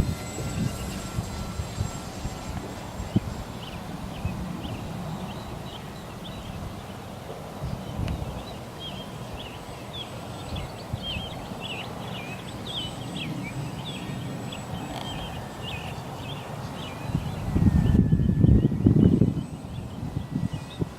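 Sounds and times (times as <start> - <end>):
wind on microphone: 0.0 - 9.6, 10.4 - 20.9
small birds chirping: 0.1 - 20.9.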